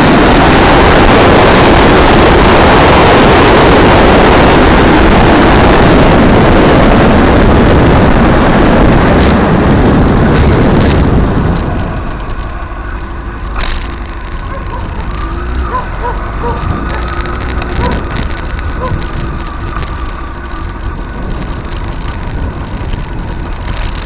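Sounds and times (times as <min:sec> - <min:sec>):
motorcycle engine: 0:00.0 - 0:24.0
wind rush on microphone: 0:00.0 - 0:24.0.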